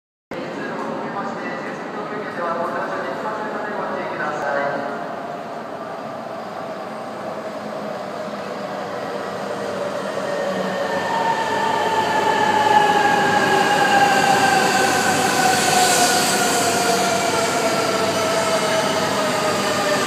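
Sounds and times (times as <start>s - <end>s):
high-speed train running noise: 0.4s - 20.0s.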